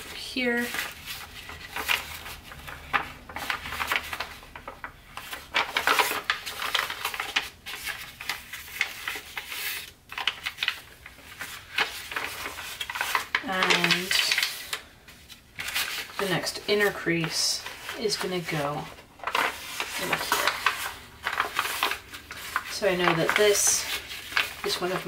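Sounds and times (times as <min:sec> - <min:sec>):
paper rustling as it is folded: 0:00.0 - 0:25.0.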